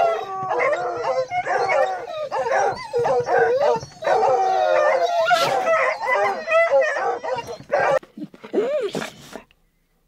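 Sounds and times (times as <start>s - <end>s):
hounds baying and howling: 0.0s - 9.4s.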